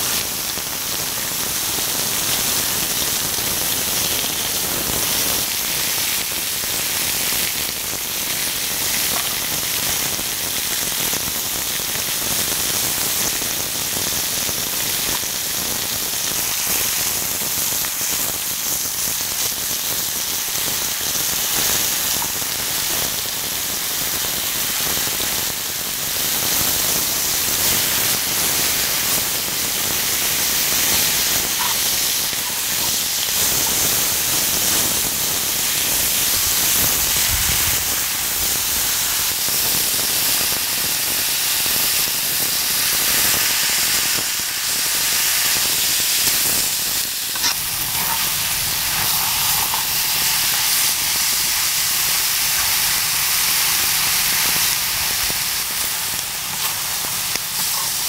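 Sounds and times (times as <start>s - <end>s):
meat sizzling on a griddle: 0.0s - 58.0s.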